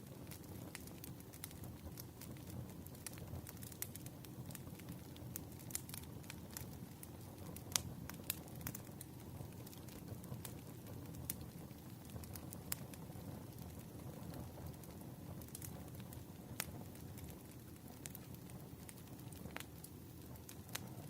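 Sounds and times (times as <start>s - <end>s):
campfire crackling: 0.0s - 21.0s
sharp snaps of fire: 0.0s - 21.0s.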